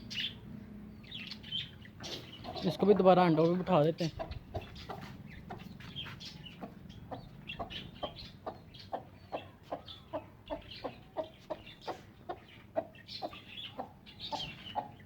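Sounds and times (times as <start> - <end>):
hen clucking: 1.9 - 15.0.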